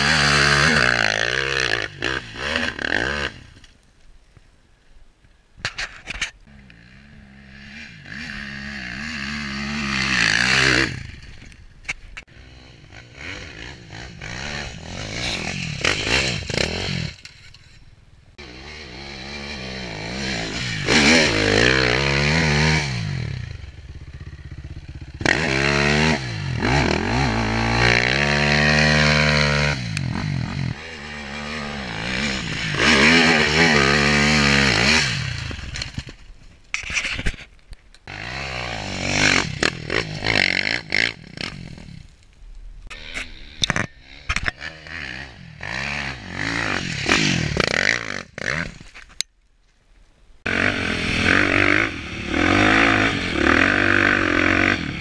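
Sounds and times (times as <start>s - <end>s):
dirt bike engine revving: 0.0s - 3.5s, 6.5s - 11.6s, 12.2s - 17.3s, 18.4s - 36.1s, 38.1s - 42.1s, 42.9s - 48.8s, 50.4s - 55.0s.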